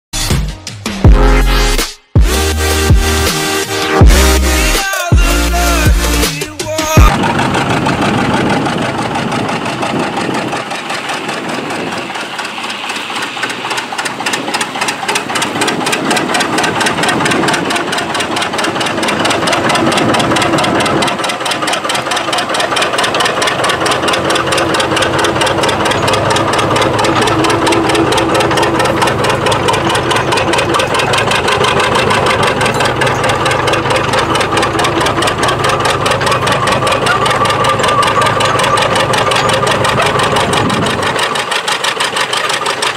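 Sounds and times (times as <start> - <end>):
tractor engine under load: 0.1 - 42.9.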